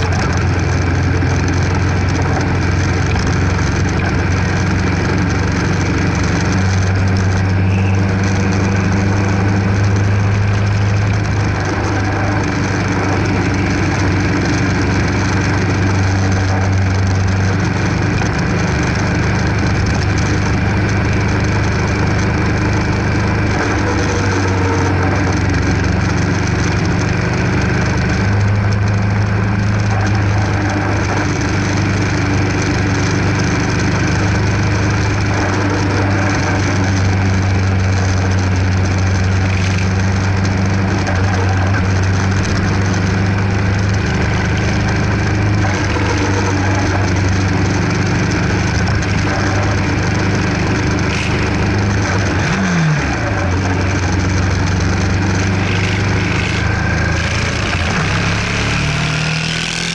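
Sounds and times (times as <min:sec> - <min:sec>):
motorcycle engine droning: 0:00.0 - 0:59.9
wind and road noise: 0:00.0 - 0:59.9.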